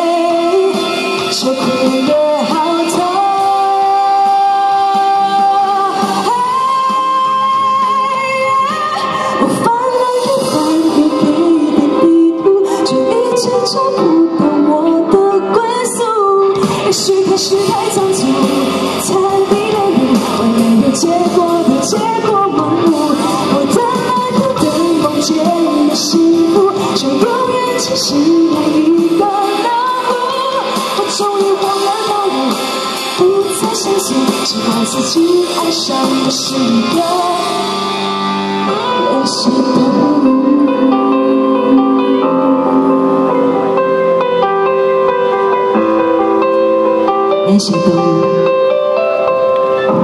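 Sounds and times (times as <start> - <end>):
pop music accompaniment: 0.0 - 50.0
woman singing into microphone: 0.0 - 50.0.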